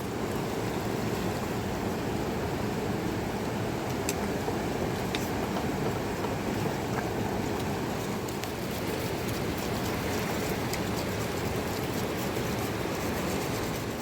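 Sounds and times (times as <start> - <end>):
rushing river: 0.0 - 14.0.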